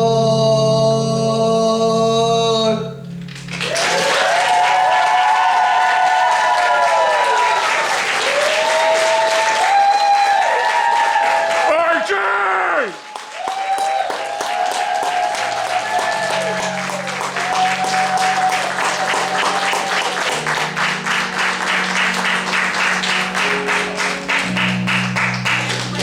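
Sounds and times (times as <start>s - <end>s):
theatre pit music: 0.0s - 26.0s.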